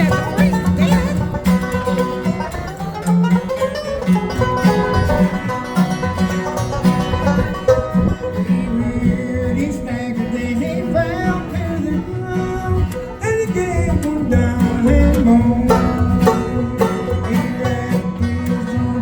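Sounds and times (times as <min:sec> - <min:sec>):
banjo picking: 0:00.0 - 0:19.0
bluegrass music: 0:00.0 - 0:19.0
guitar picking: 0:00.0 - 0:19.0.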